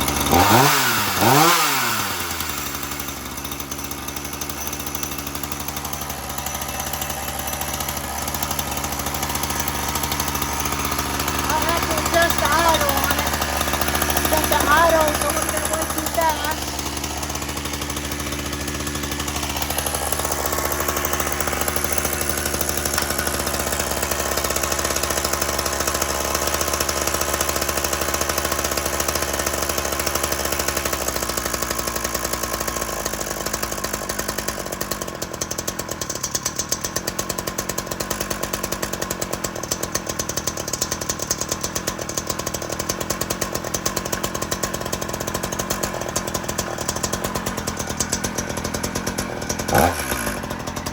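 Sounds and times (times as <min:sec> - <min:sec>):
chainsaw idling: 0:00.0 - 0:50.9.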